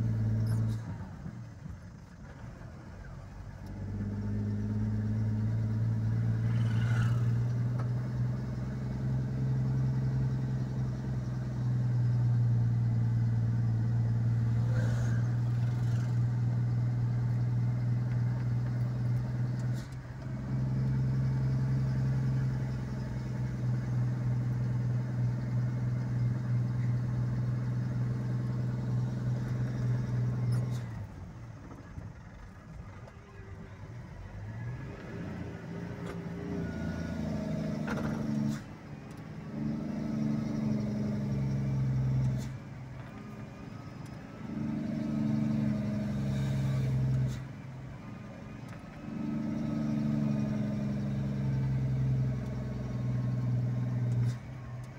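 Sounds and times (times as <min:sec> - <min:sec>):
road noise: 0:00.0 - 0:54.9
vehicle engine humming: 0:00.0 - 0:54.9.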